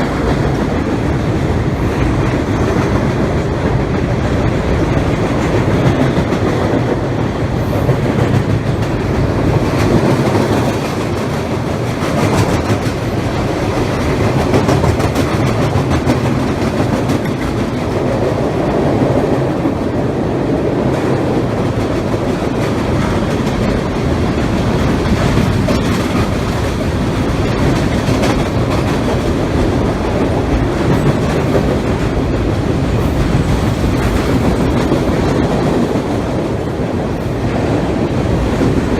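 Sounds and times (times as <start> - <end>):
freight train clattering over rails: 0.0 - 38.9.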